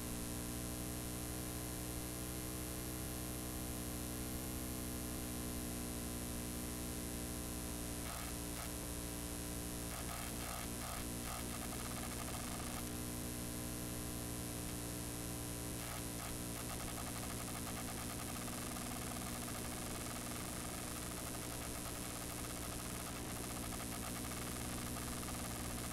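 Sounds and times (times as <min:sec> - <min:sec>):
low mains hum: 0:00.0 - 0:25.9
videotape hiss: 0:00.0 - 0:25.9.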